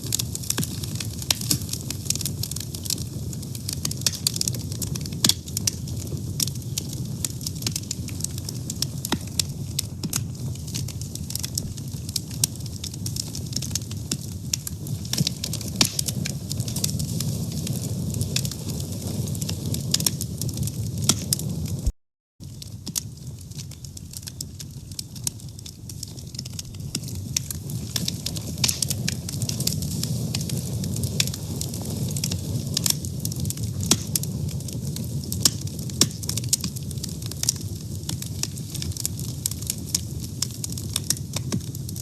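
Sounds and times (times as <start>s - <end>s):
fire crackling and popping: 0.0s - 42.0s
low rumble of flames: 0.0s - 42.0s.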